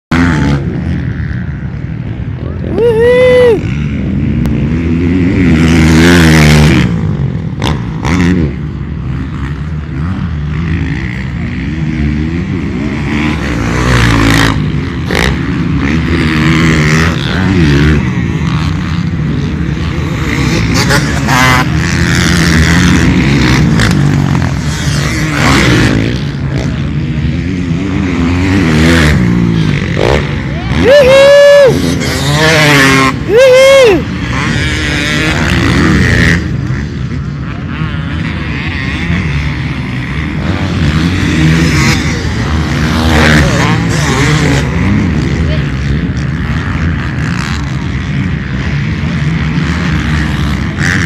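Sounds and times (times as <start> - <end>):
dirt bike engines revving: 0.1 - 51.0.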